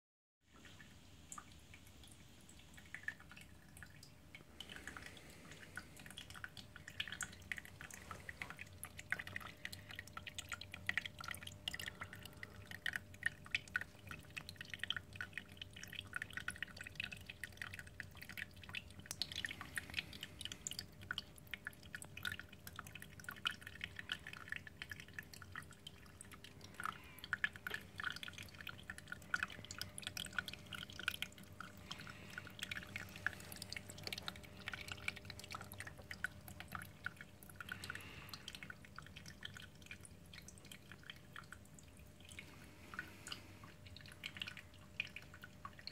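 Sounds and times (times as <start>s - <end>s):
water trickling and dripping: 0.4s - 45.9s
faint steady hum: 0.5s - 45.9s.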